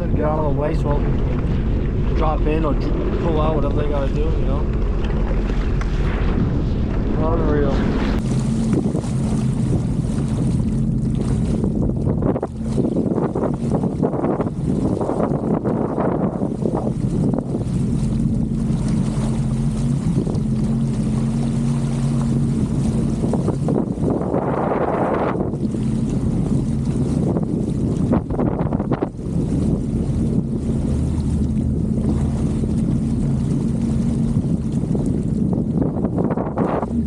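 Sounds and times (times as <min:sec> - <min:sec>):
jet ski engine running: 0:00.0 - 0:37.0
water noise: 0:00.0 - 0:37.0
wind buffeting microphone: 0:00.0 - 0:37.0.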